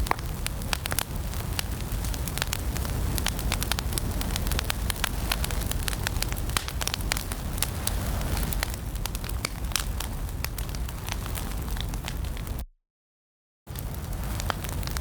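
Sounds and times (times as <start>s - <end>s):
fire rumbling and hissing: 0.0s - 12.6s, 13.7s - 15.0s
fire crackling and popping: 0.0s - 12.7s, 13.7s - 15.0s.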